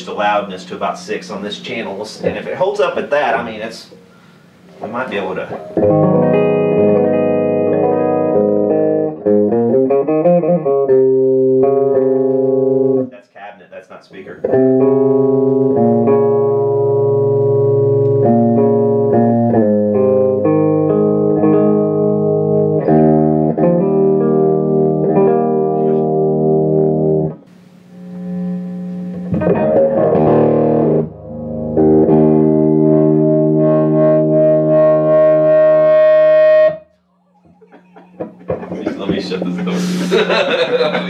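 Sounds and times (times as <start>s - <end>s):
electric guitar chords: 4.0s - 13.1s, 14.4s - 41.0s.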